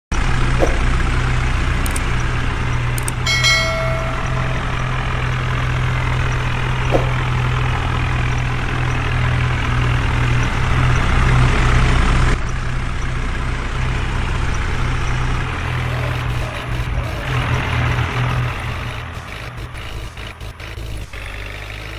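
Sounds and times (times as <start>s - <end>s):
heavy diesel engine humming: 0.1s - 21.9s.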